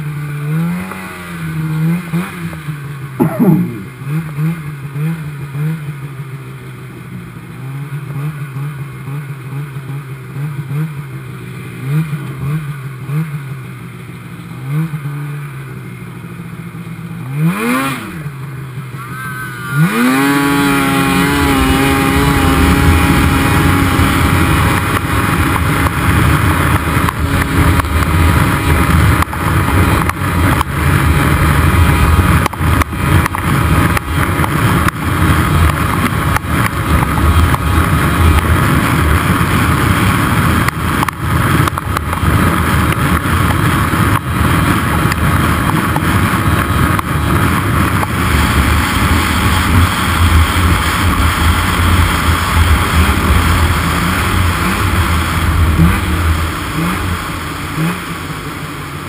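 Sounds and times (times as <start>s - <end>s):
snowmobile engine at speed: 0.0s - 59.0s.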